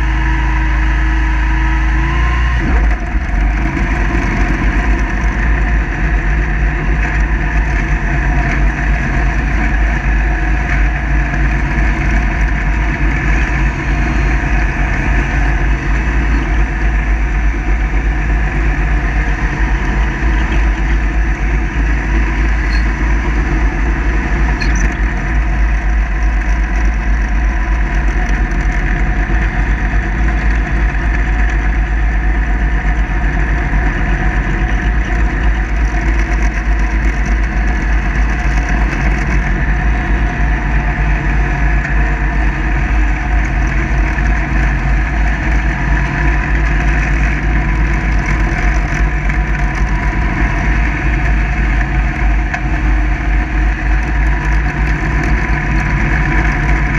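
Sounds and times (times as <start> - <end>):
mower engine drone: 0.0 - 56.9.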